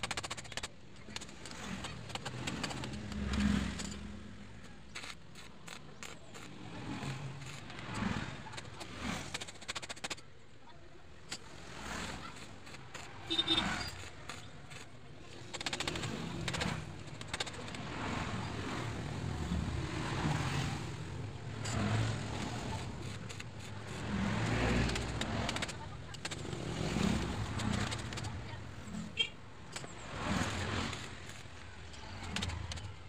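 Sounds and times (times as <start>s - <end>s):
arc welder crackling: 0.0s - 10.2s, 11.3s - 19.8s, 20.4s - 33.0s
pliers clicking and scraping metal: 0.0s - 33.0s.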